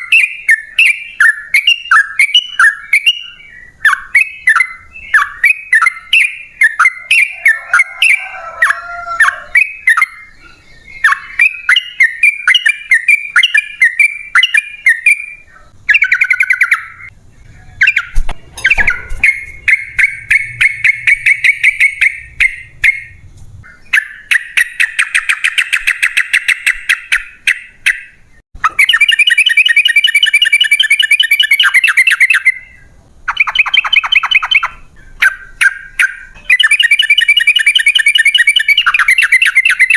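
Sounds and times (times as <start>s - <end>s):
bulbul singing bubbly chirps and trills: 0.0s - 7.9s, 9.2s - 39.9s.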